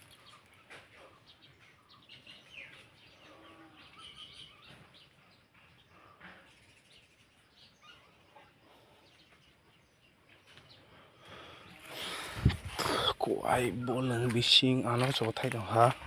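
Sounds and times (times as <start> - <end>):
faint bird chirps and calls: 0.0 - 16.0.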